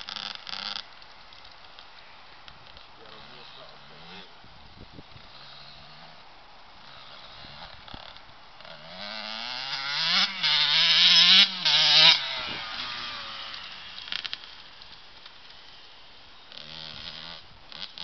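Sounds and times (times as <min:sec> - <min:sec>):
dirt bike engine revving: 0:00.0 - 0:00.9, 0:02.6 - 0:06.2, 0:06.8 - 0:18.0.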